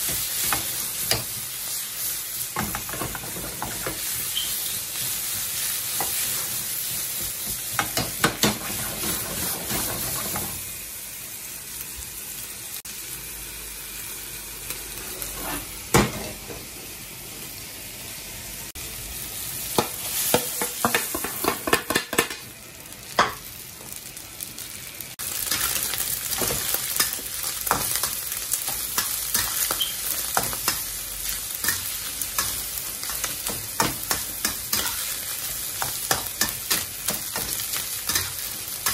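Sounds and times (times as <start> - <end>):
rice sizzling in a wok: 0.0 - 38.9.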